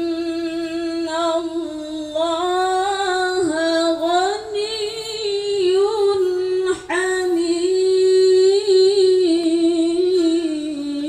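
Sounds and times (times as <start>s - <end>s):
woman reciting melodically: 0.0s - 11.0s.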